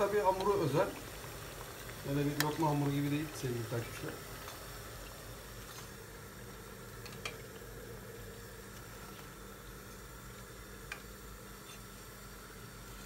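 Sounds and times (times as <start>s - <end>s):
donuts sizzling in oil: 0.0s - 13.0s.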